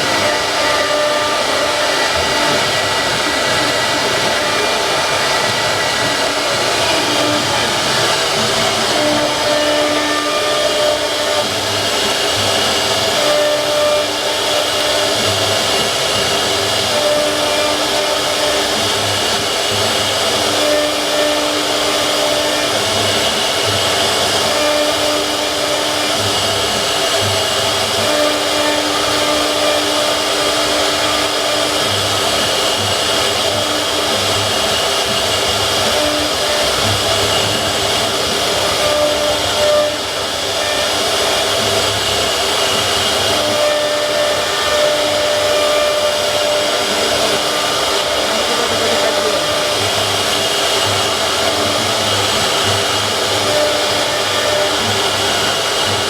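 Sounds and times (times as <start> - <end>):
router spindle carving wood: 0.0 - 56.0.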